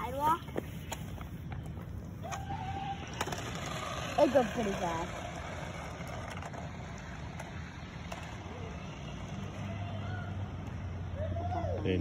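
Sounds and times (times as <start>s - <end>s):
low motor hum: 0.0s - 12.0s
outdoor background noise: 0.0s - 12.0s.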